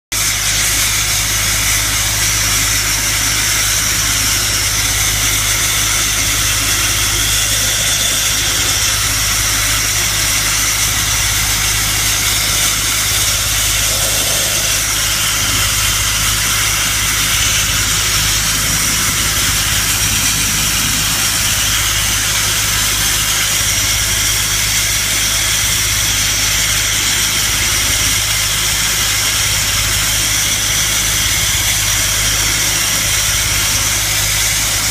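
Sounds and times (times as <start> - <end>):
sandblasting nozzle hissing on metal: 0.2 - 34.9.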